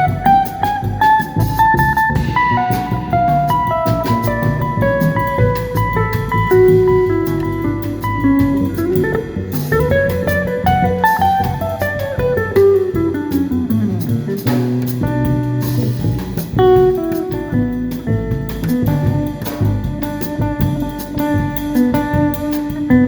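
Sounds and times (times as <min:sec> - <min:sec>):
drum cymbals: 0:00.0 - 0:23.0
guitar melody: 0:00.0 - 0:23.0
low held bass notes: 0:00.0 - 0:23.0.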